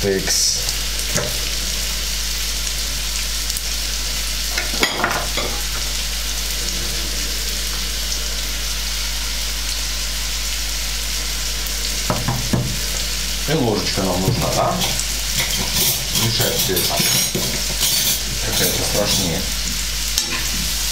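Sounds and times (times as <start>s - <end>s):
vegetables sizzling in oil: 0.0s - 20.9s.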